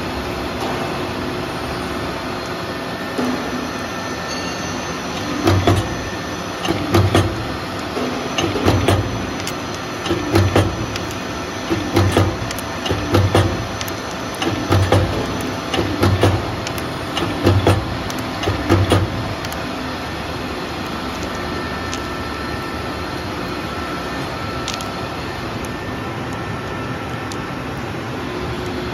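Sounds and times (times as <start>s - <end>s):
steady machine hum: 0.0s - 28.9s.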